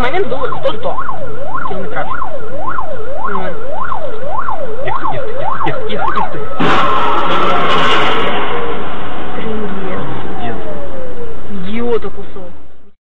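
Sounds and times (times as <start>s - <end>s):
emergency siren wailing: 0.0s - 12.9s.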